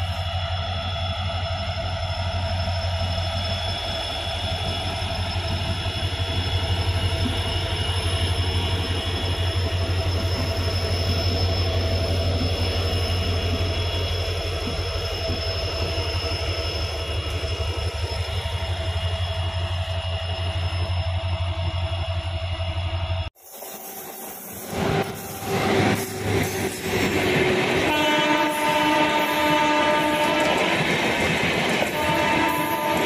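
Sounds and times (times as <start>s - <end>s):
diesel locomotive engine drone: 0.0s - 33.0s.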